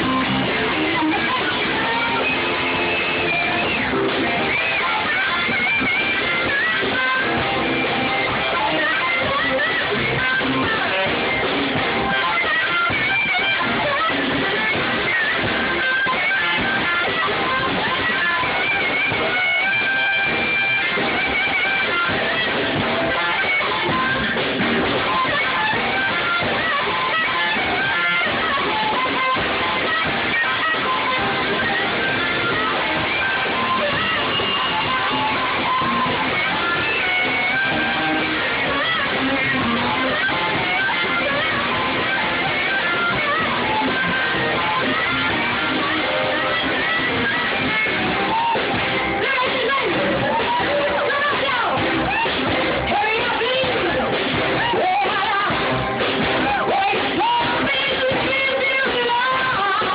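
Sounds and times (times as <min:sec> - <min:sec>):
harmonica bending notes: 0:00.0 - 0:54.0
drums: 0:00.0 - 0:59.9
electric guitar: 0:00.0 - 0:59.9
live band music: 0:00.0 - 0:59.9.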